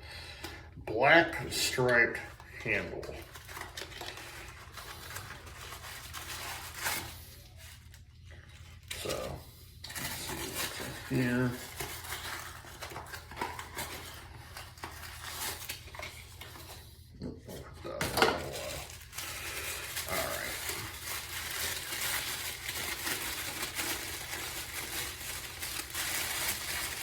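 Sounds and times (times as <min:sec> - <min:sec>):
packaging rustling and clicking: 0:02.3 - 0:16.8, 0:17.9 - 0:27.0.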